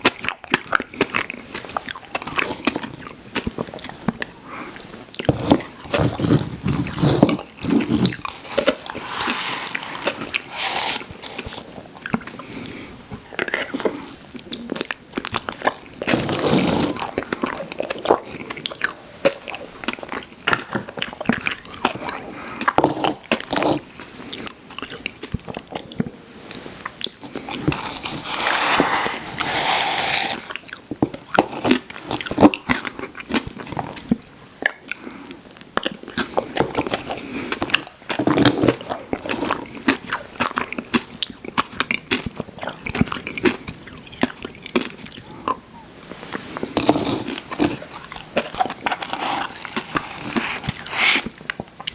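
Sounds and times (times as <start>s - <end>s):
person chewing ice cream: 0.0s - 51.9s.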